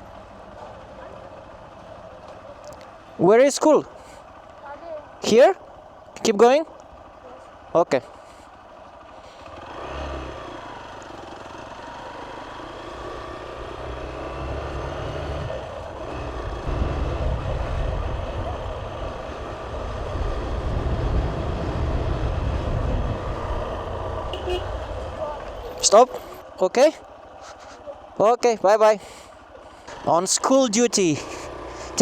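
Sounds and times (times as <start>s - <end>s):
wind and road noise: 0.0s - 32.0s
motorcycle engine running: 3.8s - 32.0s.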